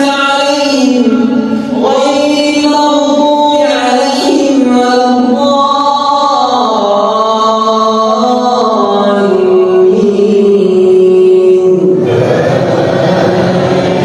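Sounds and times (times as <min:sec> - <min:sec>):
man reciting in melodic style: 0:00.0 - 0:14.0.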